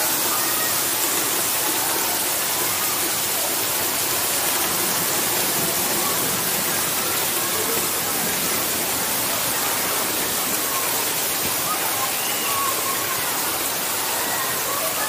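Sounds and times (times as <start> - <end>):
rain falling on water and paving: 0.0 - 15.0.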